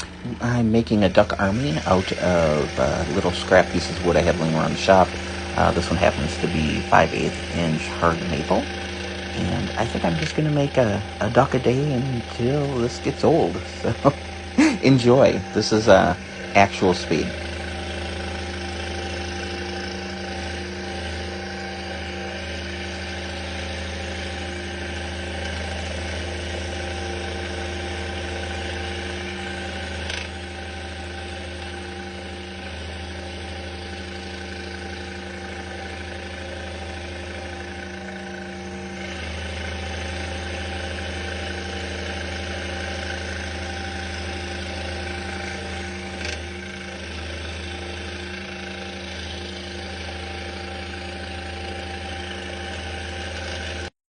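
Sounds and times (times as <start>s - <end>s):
scroll saw cutting wood: 0.0s - 54.0s.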